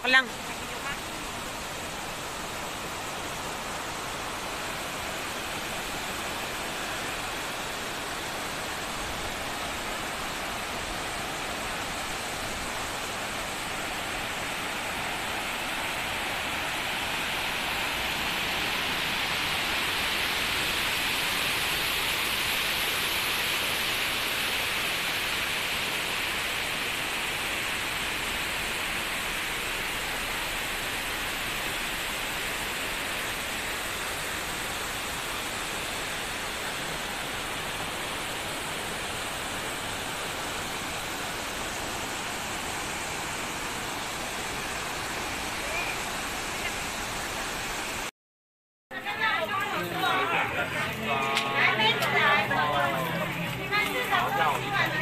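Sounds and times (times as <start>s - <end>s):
waterfall rushing over rocks: 0.0s - 48.1s, 48.9s - 55.0s.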